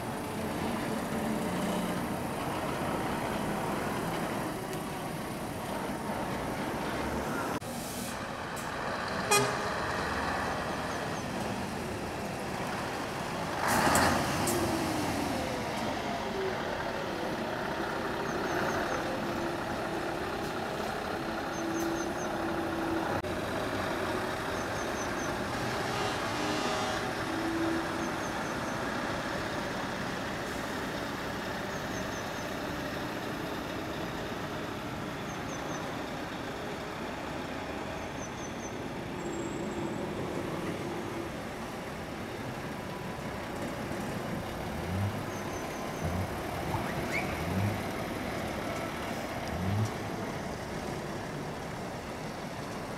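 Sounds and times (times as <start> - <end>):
lorry diesel engines running: 0.0 - 52.9.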